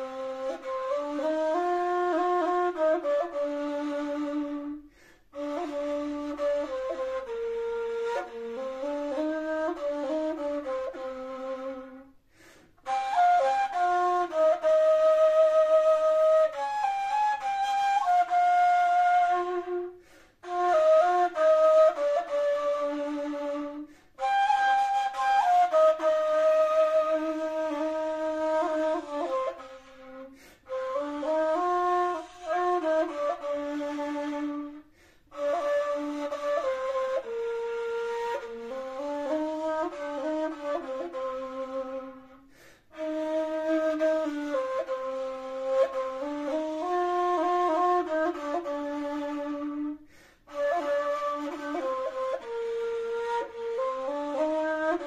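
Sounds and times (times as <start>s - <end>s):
wooden flute melody: 0.0s - 55.0s.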